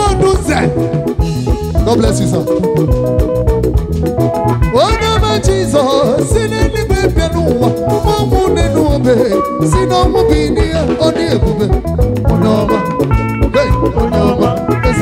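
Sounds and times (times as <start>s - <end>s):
drum kit beat: 0.0s - 15.0s
electric guitar lines: 0.0s - 15.0s
keyboard: 0.0s - 15.0s.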